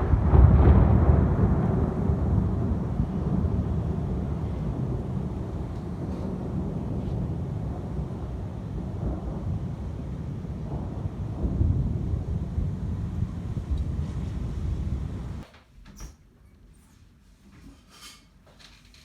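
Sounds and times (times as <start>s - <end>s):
thunder rumbling: 0.0s - 15.4s.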